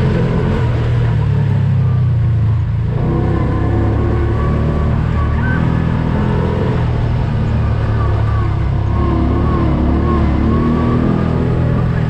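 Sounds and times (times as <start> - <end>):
off-road vehicle engine rumbling: 0.0 - 12.0.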